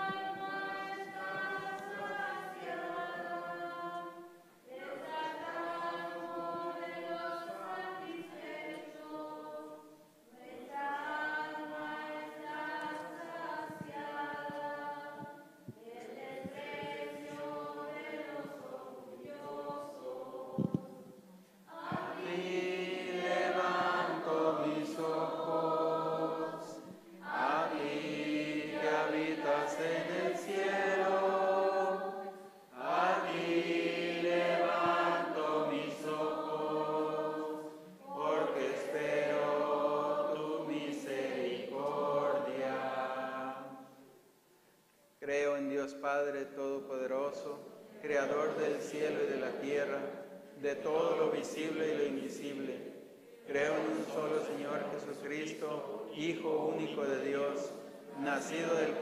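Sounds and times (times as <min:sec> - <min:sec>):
voices singing a hymn: 0:00.0 - 0:59.0.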